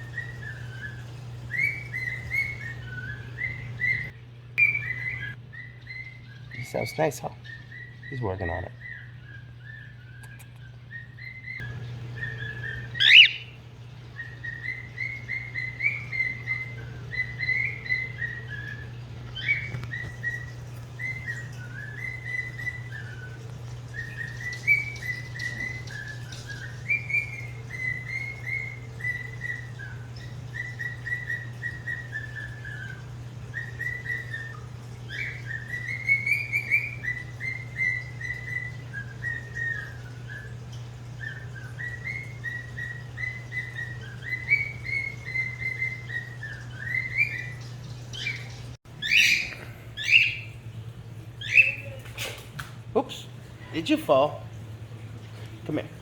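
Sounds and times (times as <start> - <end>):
cockatiel whistling: 0.0 - 13.6, 14.2 - 40.6, 41.2 - 50.5, 51.4 - 52.0.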